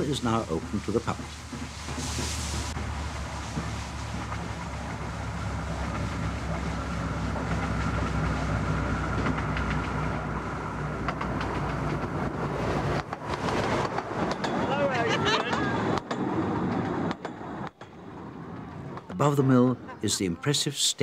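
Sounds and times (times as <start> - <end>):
miniature train humming: 0.0 - 19.5
wheels clicking over rail joints: 0.0 - 19.6.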